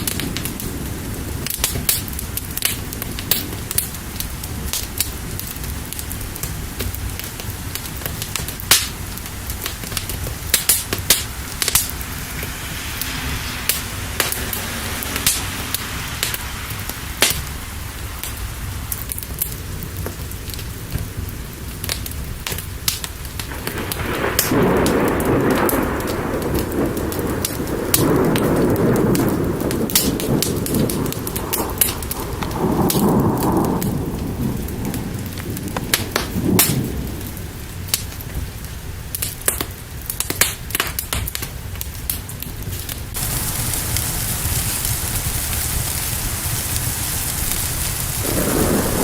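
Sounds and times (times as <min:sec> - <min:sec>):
thunder rolling: 0:00.0 - 0:21.5, 0:23.3 - 0:38.5, 0:43.1 - 0:49.0
fire crackling and popping: 0:00.0 - 0:49.0
rain falling: 0:00.0 - 0:49.0.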